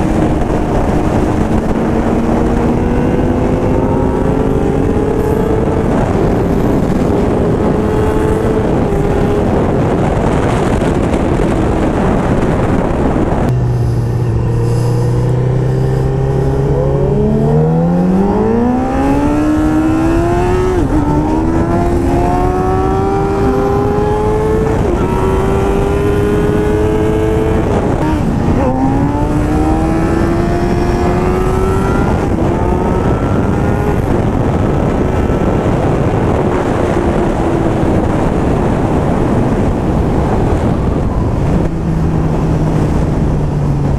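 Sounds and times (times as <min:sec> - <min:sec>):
motorcycle engine accelerating: 0:00.0 - 0:43.9
wind rush: 0:00.0 - 0:43.9.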